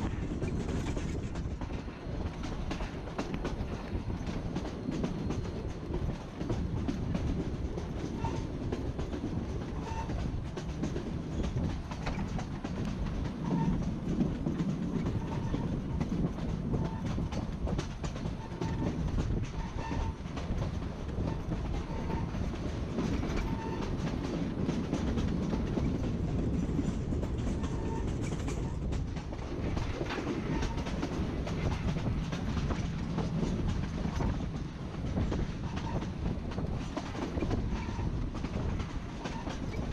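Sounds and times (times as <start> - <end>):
train coaches rumbling: 0.0 - 39.9
wheels clacking over rail joints: 0.0 - 39.9.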